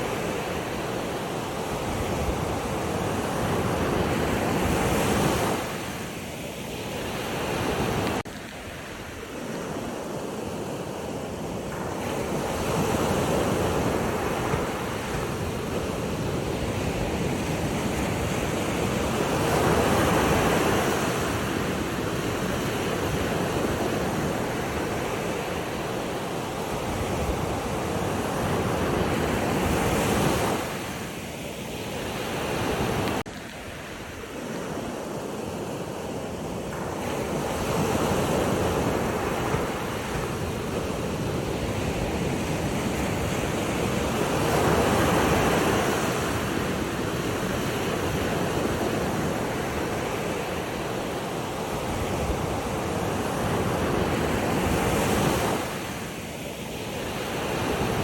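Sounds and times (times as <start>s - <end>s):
sea waves washing: 0.0s - 58.0s.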